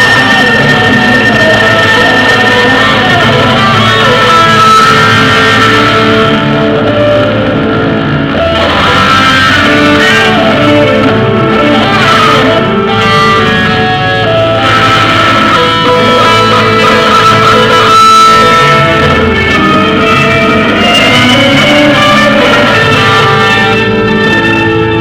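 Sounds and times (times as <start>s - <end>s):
electric guitar lead notes: 0.0s - 25.0s
loud rock music: 0.0s - 25.0s.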